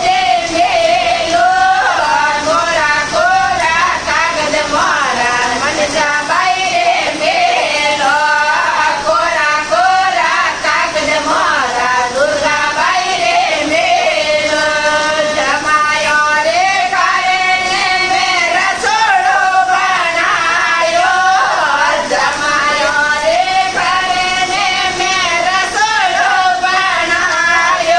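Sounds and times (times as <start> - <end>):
women singing folk song: 0.0 - 27.9.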